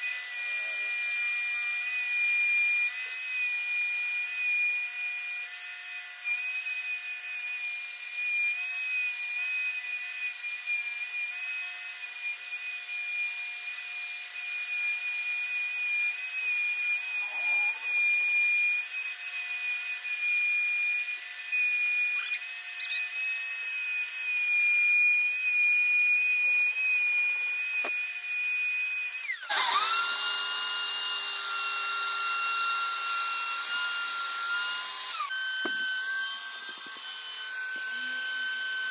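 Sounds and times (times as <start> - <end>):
electric power saw whining: 0.0 - 38.9.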